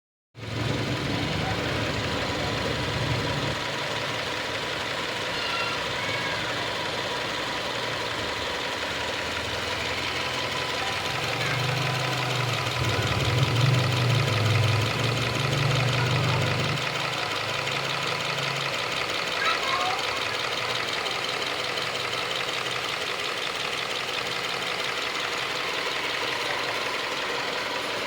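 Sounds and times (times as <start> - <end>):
car engine running: 0.4 - 28.0.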